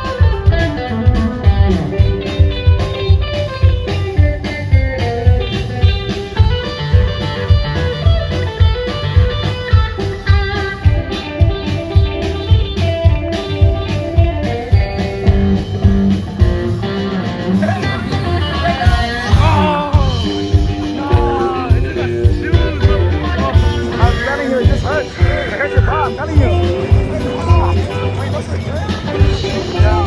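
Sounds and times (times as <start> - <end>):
blues guitar music with drum beat: 0.0 - 30.0.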